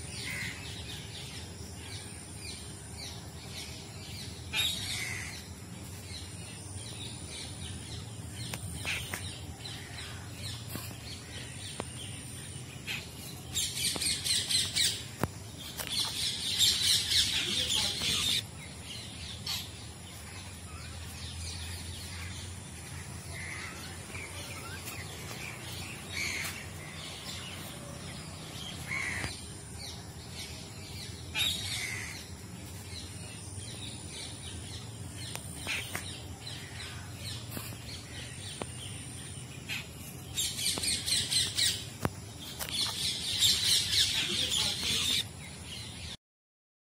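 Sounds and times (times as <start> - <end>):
birds calling and chirping: 0.0 - 46.2.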